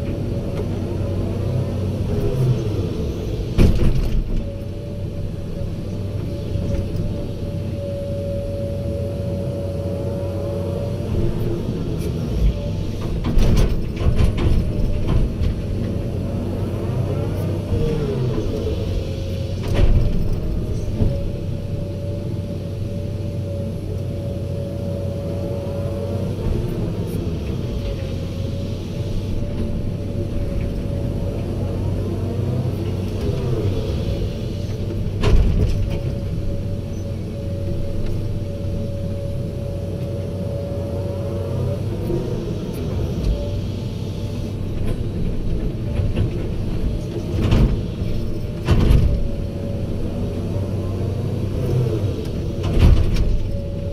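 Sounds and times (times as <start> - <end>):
excavator engine running: 0.0 - 53.9
hydraulics whining: 0.0 - 53.9.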